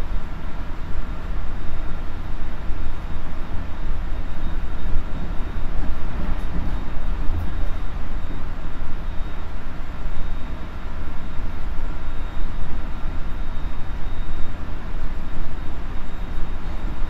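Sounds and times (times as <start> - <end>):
faint high electric whine: 0.0 - 17.0
train wheels rumbling on track: 1.9 - 17.0.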